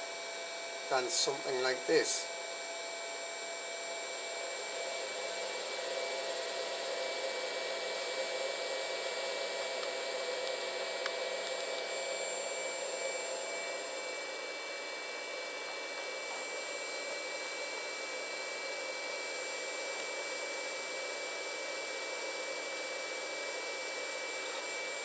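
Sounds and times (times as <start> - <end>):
fan whirring hum: 0.0 - 25.0
faint high-pitched whines: 0.1 - 25.0.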